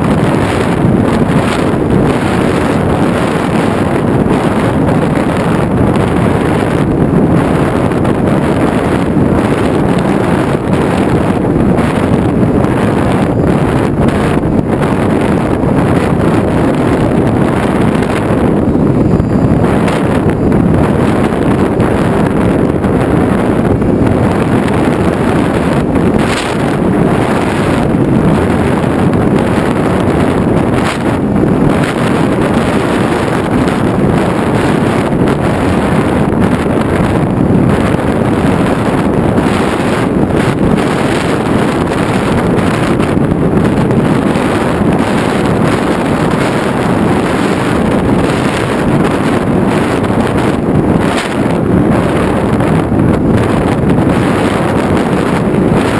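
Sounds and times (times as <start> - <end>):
motor and propeller running: 0.0 - 55.9
wind rushing over microphone: 0.0 - 55.9.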